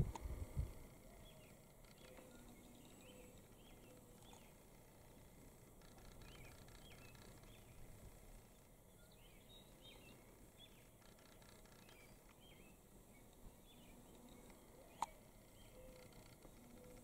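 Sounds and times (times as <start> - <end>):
low steady hiss: 0.0 - 17.0
small birds chirping: 0.0 - 17.0.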